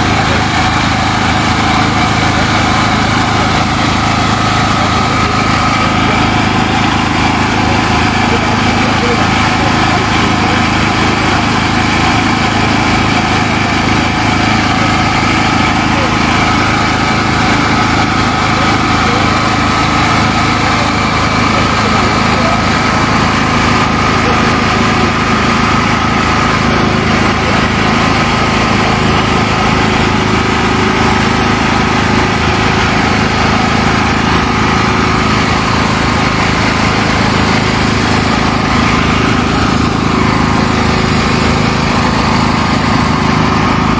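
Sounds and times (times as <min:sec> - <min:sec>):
generator engine running: 0:00.0 - 0:43.9.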